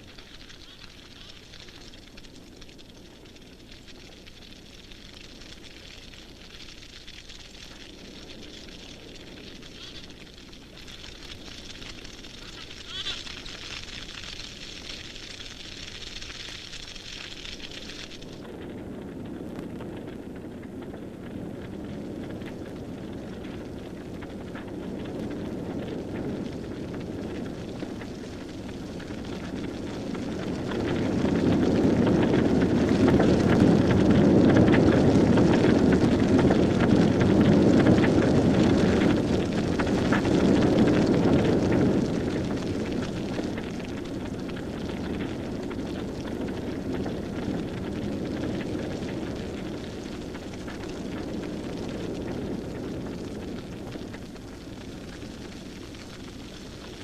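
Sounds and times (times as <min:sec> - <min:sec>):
grass fire rushing and crackling: 0:00.0 - 0:57.0.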